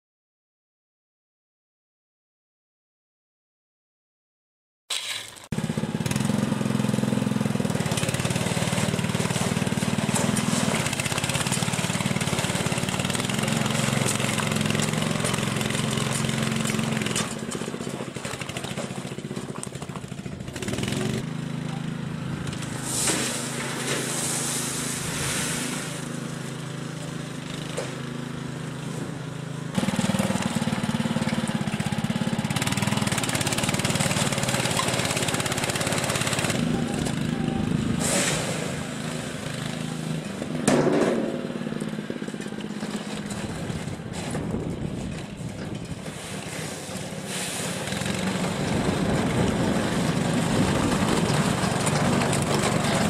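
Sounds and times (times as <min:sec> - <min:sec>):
small petrol engine running: 0:05.5 - 0:25.2, 0:25.8 - 0:53.0.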